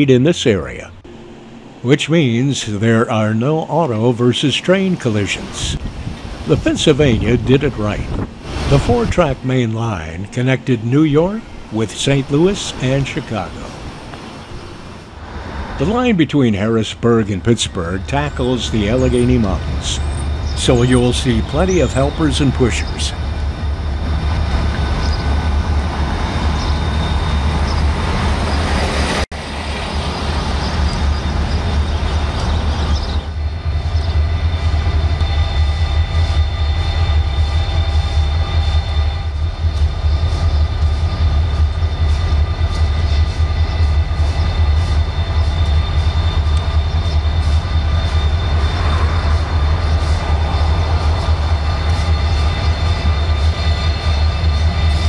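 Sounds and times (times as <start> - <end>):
diesel locomotives droning: 0.0 - 55.0.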